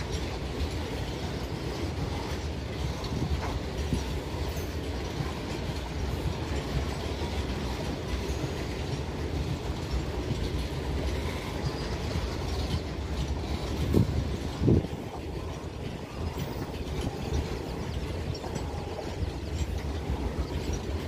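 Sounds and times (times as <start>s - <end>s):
freight train wheels on rails: 0.0s - 21.0s.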